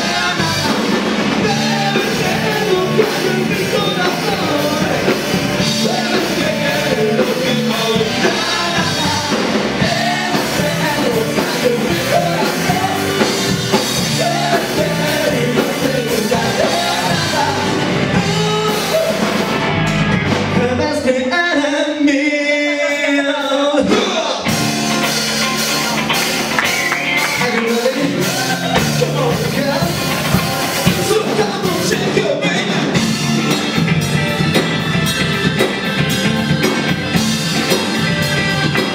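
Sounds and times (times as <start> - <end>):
electric guitar: 0.0 - 21.4, 23.8 - 38.9
bass guitar: 0.0 - 38.9
drums: 0.0 - 38.9
lead singer: 0.0 - 38.9.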